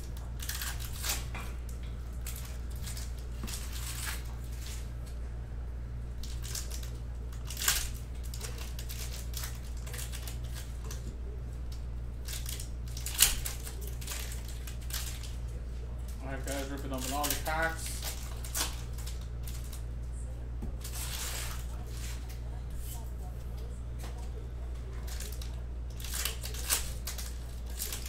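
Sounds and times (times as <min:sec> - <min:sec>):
foil wrappers crinkling and tearing: 0:00.0 - 0:05.2, 0:06.2 - 0:11.1, 0:12.2 - 0:19.9, 0:20.8 - 0:23.0, 0:25.0 - 0:28.0
steady low hum: 0:00.0 - 0:28.0.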